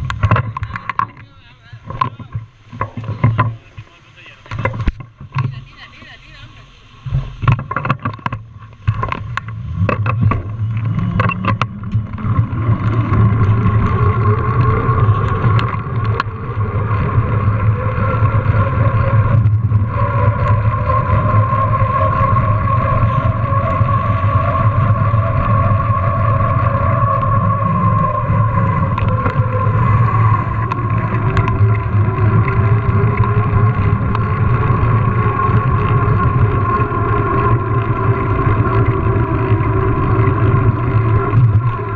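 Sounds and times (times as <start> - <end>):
bike tyres humming on stone: 0.0 - 41.9
wind buffeting microphone: 0.0 - 41.9.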